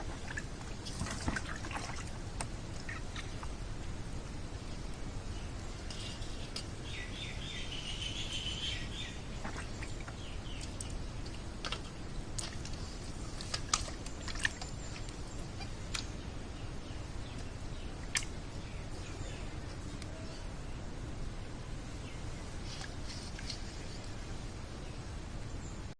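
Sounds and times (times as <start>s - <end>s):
birds chirping: 0.0s - 25.9s
low outdoor rumble: 0.0s - 25.9s.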